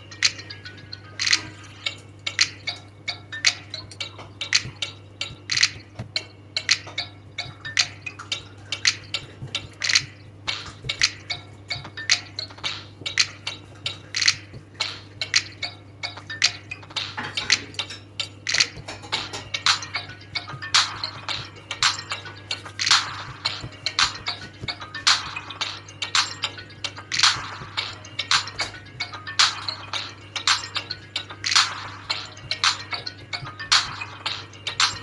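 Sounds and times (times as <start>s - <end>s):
background music with ticking beat: 0.0s - 35.0s.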